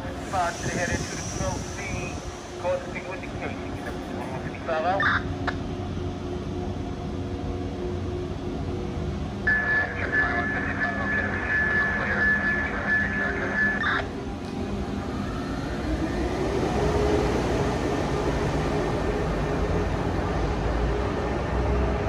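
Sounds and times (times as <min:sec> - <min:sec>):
train rumbling on tracks: 0:00.0 - 0:22.0.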